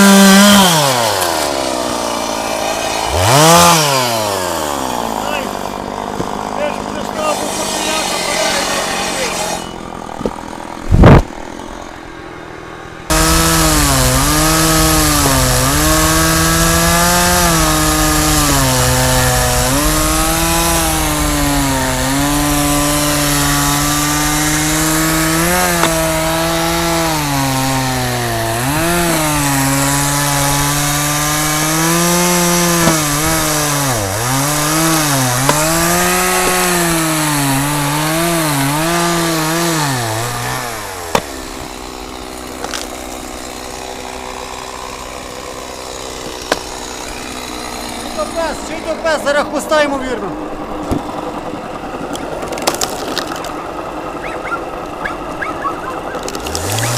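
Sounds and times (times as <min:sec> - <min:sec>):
chainsaw cutting wood: 0:00.0 - 0:12.3, 0:13.0 - 0:56.9.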